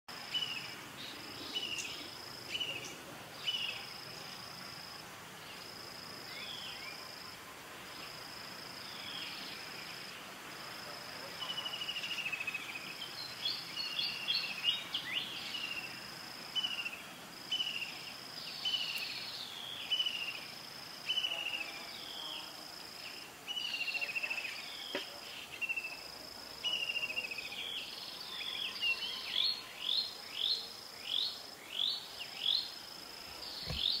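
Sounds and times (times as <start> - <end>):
insects: 0.1 - 34.0.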